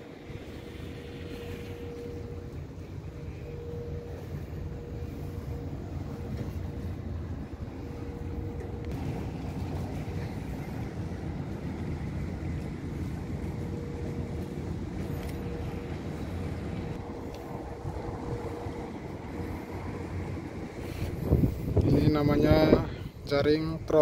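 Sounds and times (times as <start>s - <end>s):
boat engine running: 0.0s - 23.2s.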